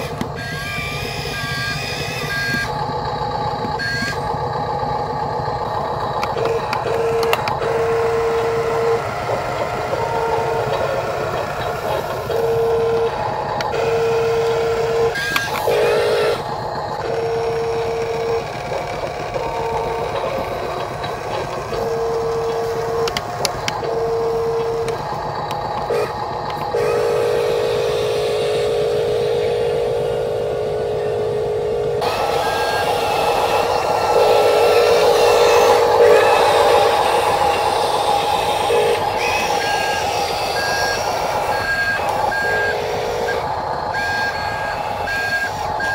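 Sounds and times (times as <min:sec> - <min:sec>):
small electric motors whining: 0:00.0 - 0:45.9.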